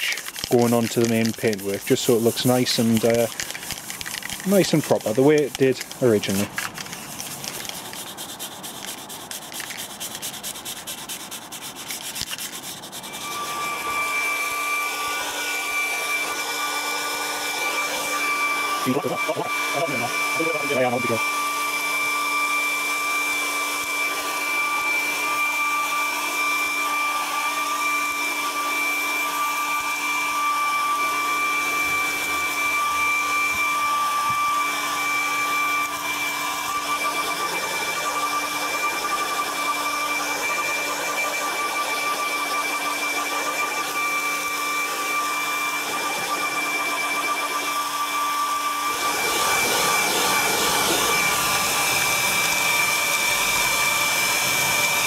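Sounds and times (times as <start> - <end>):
hair dryer blowing with whine: 0.0 - 55.0.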